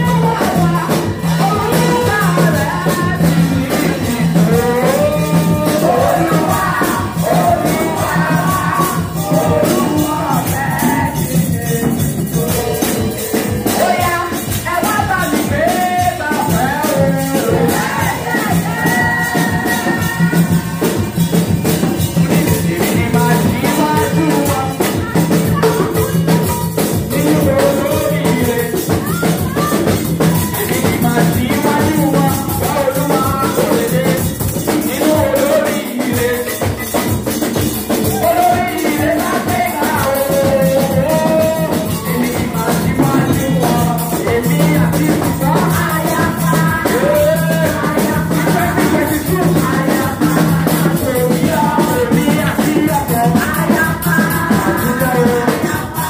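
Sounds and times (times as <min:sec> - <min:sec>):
women singing into microphones: 0:00.0 - 0:21.1, 0:22.0 - 0:36.8, 0:37.9 - 0:56.0
conga drums: 0:00.0 - 0:56.0
rattling hand percussion: 0:00.0 - 0:56.0.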